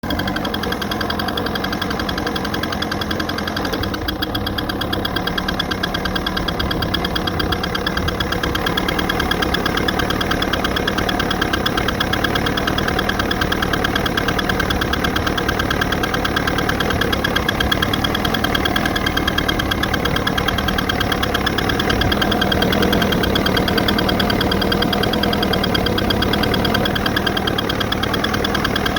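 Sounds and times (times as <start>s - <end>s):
fast even ticking: 0.0s - 28.9s
outboard motor running: 0.0s - 28.9s.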